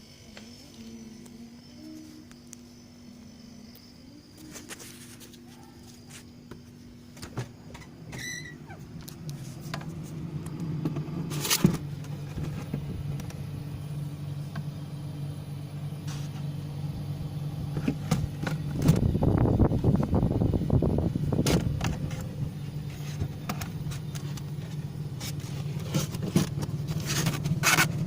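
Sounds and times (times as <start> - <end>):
refrigerator compressor humming: 0.0 - 28.0.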